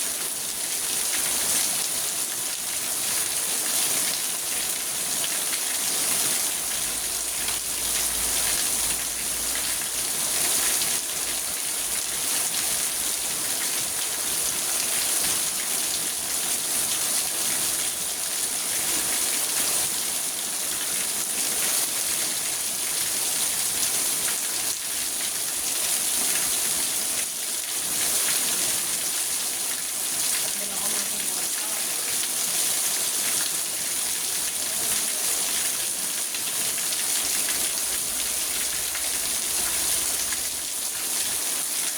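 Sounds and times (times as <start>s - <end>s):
rain on a car roof: 0.0s - 41.9s.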